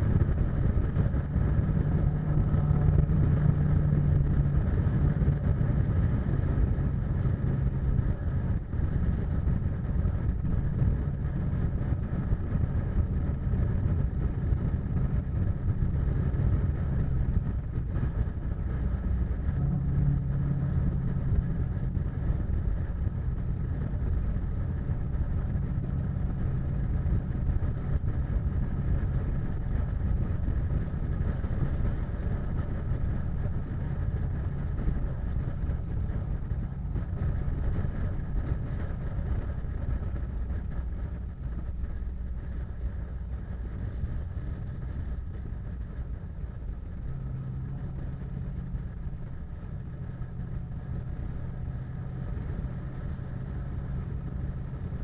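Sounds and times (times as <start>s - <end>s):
car engine and tyre drone: 0.0s - 55.0s.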